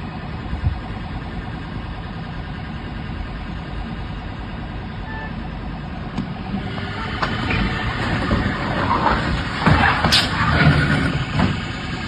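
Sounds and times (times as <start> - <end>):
road vehicle engine and tyres: 0.0 - 12.0.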